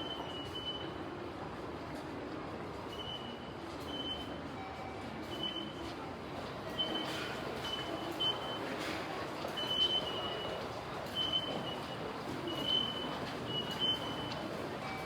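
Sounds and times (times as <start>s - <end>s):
hum of road and rail traffic: 0.0s - 15.0s.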